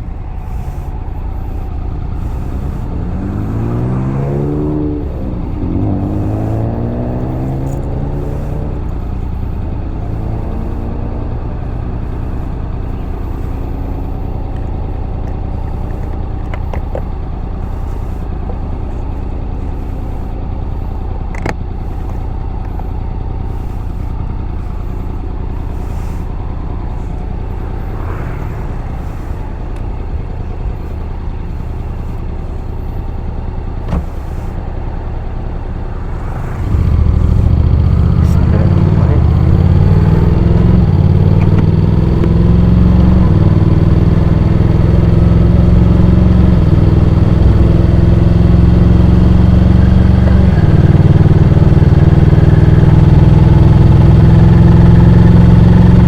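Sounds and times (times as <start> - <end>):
scooter engine running: 0.0 - 56.0
wind and road noise: 0.0 - 56.0.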